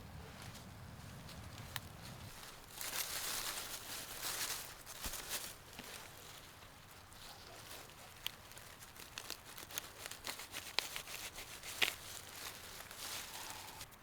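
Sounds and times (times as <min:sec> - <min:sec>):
leaves and twigs rustling: 0:00.0 - 0:14.0
twigs snapping: 0:00.4 - 0:13.9.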